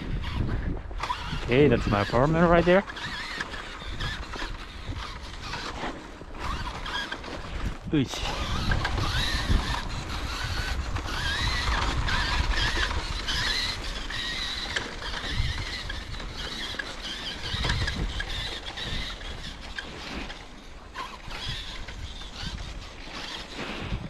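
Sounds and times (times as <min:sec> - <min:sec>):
electric toy truck motor whining: 0:00.0 - 0:24.0.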